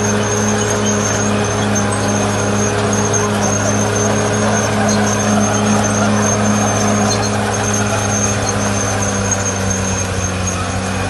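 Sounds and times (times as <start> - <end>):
bulldozer diesel engine running: 0.0 - 11.0
high steady whine: 0.0 - 11.0.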